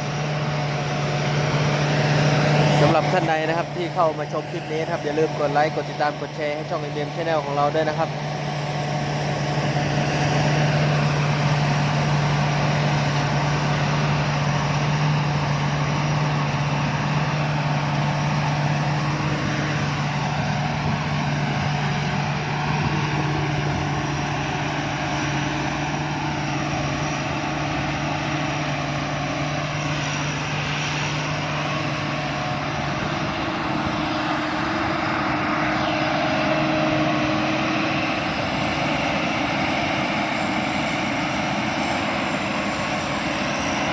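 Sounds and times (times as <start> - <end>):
combine harvester drone: 0.0 - 43.9.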